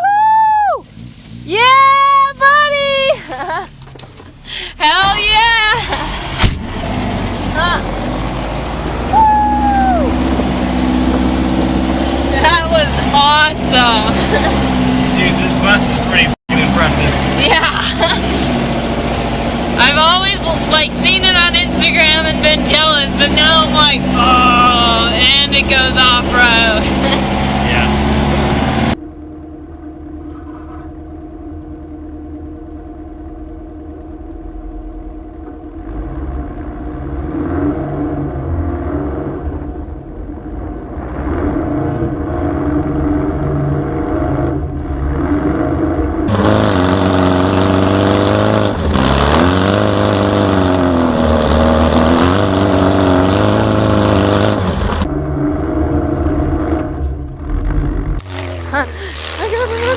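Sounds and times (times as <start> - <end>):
car engine revving: 0.8 - 59.9.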